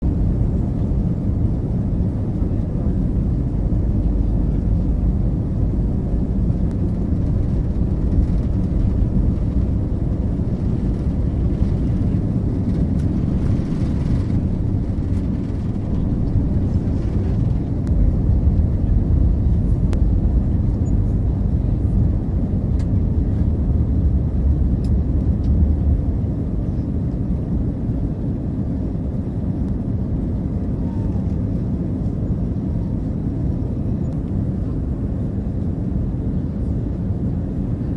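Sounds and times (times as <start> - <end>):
jet airliner rumble: 0.0 - 37.9.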